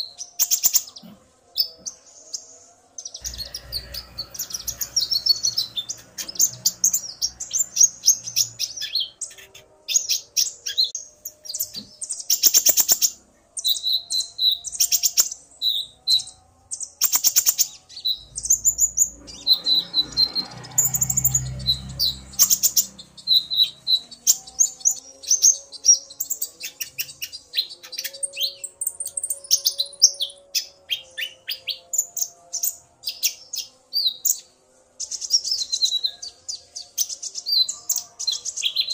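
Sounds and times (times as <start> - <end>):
sunbirds chirping and trilling: 0.0 - 38.9.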